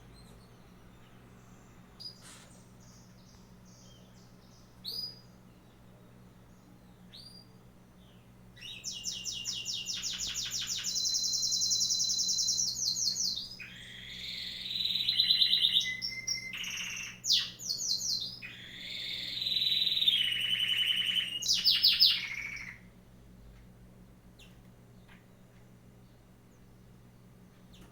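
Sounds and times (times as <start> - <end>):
bird singing rapid trills: 0.1 - 22.9.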